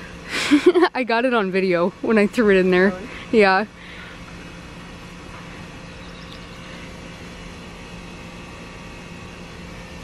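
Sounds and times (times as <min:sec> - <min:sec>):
background hum and hiss: 0:00.0 - 0:10.0.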